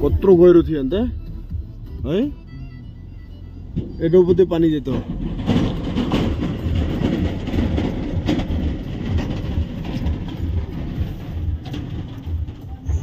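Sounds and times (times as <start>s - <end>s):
tyres rumbling over a bridge: 0.0s - 13.0s.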